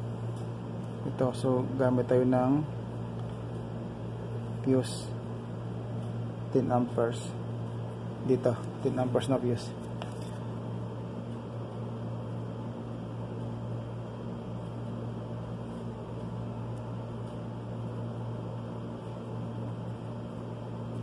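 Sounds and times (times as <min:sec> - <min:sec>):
steady low hum with hiss: 0:00.0 - 0:21.0.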